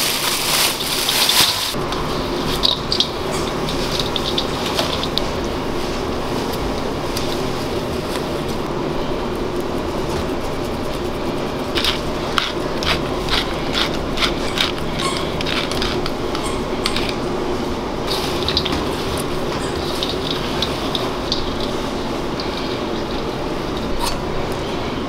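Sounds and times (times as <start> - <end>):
kitchen ventilation hum: 0.0 - 25.0.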